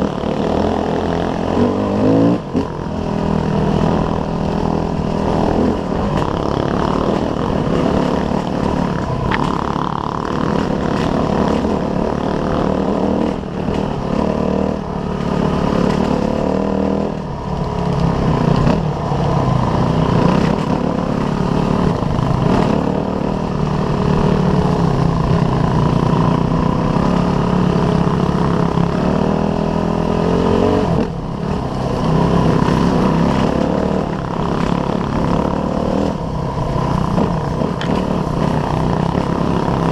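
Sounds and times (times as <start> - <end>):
dirt bike engine revving: 0.0 - 17.4, 18.0 - 39.9.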